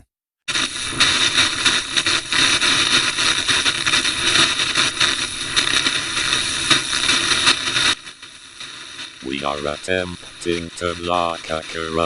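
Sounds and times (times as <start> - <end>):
hissing static: 0.5 - 12.0.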